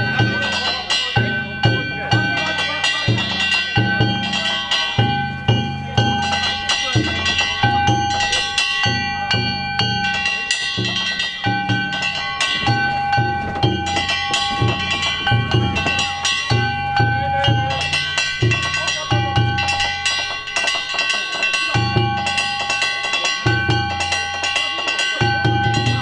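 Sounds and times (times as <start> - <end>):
hand gongs ringing: 0.0 - 26.0
taiko drum beating: 0.0 - 26.0.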